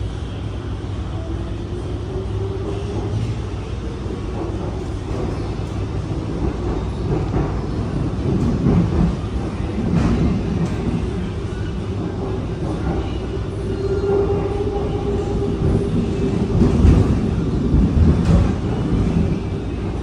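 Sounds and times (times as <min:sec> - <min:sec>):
train rumbling on track: 0:00.0 - 0:20.0.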